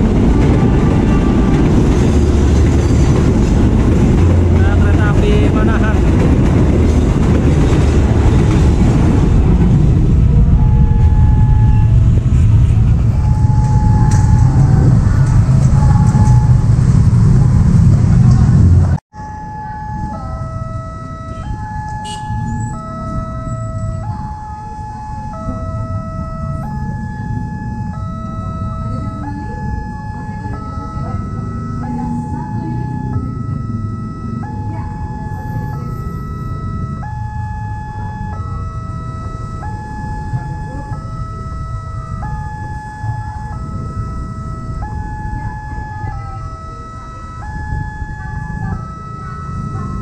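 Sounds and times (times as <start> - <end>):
two-tone crossing siren: 0.0 - 17.9, 18.8 - 50.0
road traffic rumble: 0.0 - 50.0.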